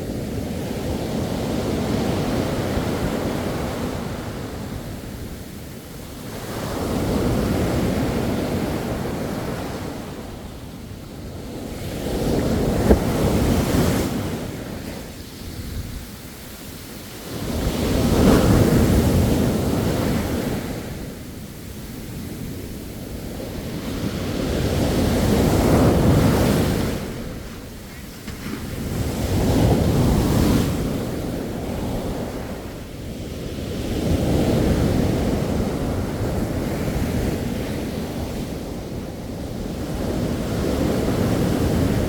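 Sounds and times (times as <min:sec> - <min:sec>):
sea waves breaking on shore: 0:00.0 - 0:42.0.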